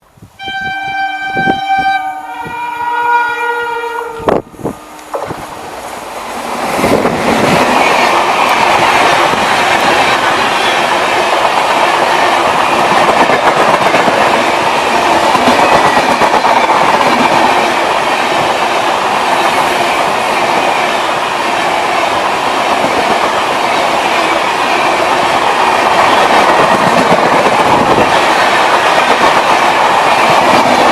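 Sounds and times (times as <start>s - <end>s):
train wheels clattering over rails: 5.1s - 30.9s.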